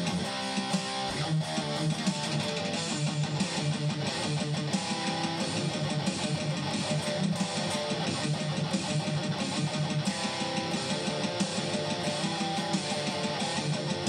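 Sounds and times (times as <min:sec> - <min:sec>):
distorted electric guitar riff: 0:00.0 - 0:14.0.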